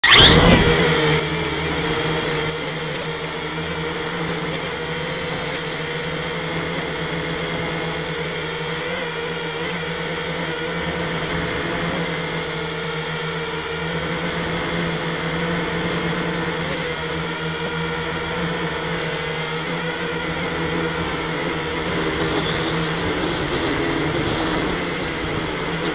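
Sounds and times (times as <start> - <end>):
drone propellers whirring: 0.0 - 25.9.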